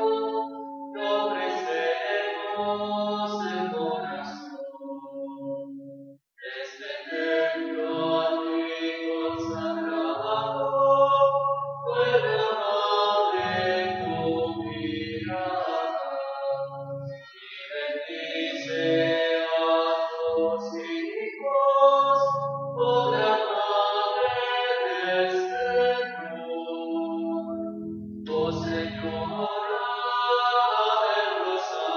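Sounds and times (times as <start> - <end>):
hymn singing: 0.0 - 31.9.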